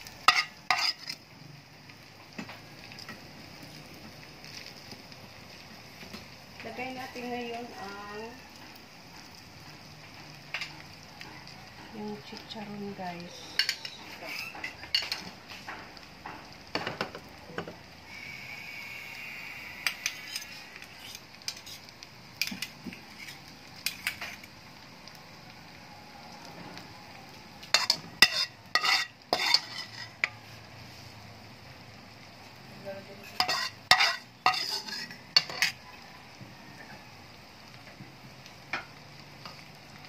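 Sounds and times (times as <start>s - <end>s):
low sizzle: 0.0s - 40.0s.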